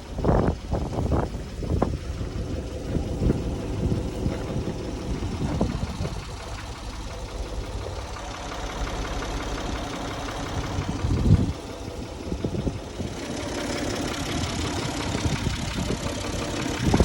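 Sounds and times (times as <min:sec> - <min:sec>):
engine idling: 0:00.0 - 0:17.0
engine knock: 0:00.0 - 0:17.0.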